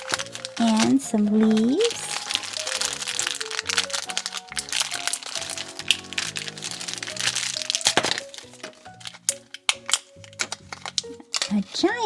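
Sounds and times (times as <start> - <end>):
plastic toy parts clicking: 0.0 - 11.8
light background music: 0.0 - 12.0
plastic wrapping crinkling: 0.0 - 12.0.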